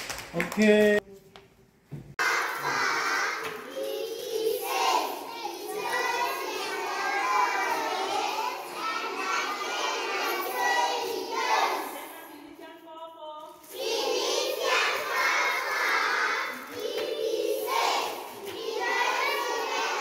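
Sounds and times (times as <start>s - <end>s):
children chanting in unison: 2.2s - 12.1s, 13.7s - 20.0s.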